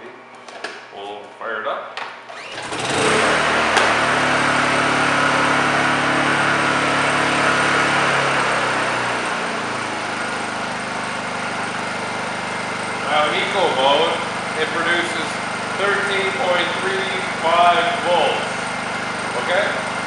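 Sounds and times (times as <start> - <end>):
generator engine running: 2.3 - 20.0.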